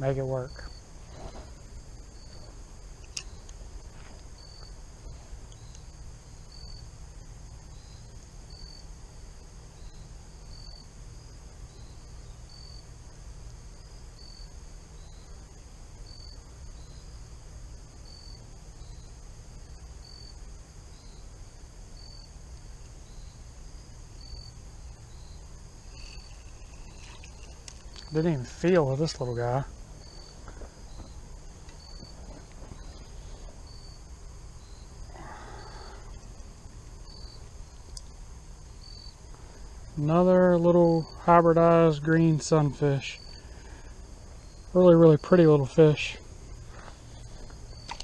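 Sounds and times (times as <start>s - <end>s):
fainter lower insect chirp: 0.0s - 48.0s
high insect chirp: 0.0s - 48.0s
high-pitched insect drone: 0.0s - 48.0s
low steady rumble: 0.0s - 48.0s.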